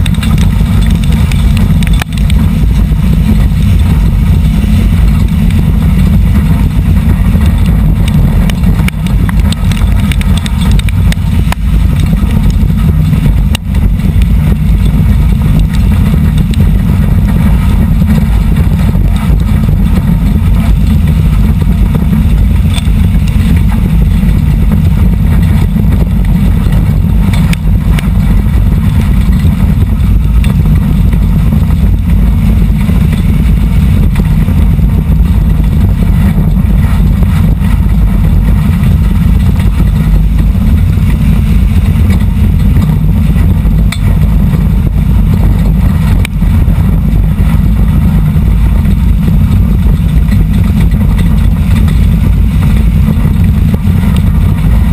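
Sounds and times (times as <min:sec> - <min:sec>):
race car engine running hard: 0:00.0 - 0:54.9.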